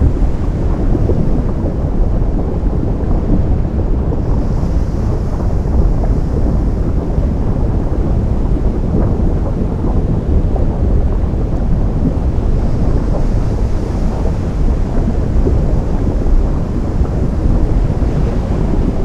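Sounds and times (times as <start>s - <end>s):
deep roar of waves: 0.0s - 19.0s.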